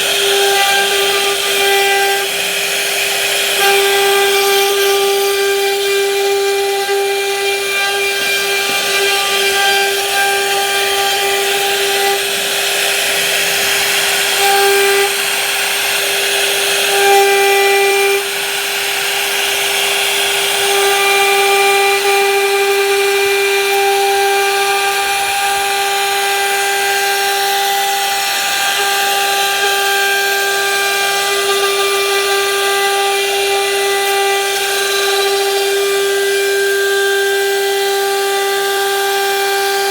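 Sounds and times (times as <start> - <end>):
hiss of cutting wood: 0.0 - 39.9
power tool high-pitched whine: 0.0 - 39.9.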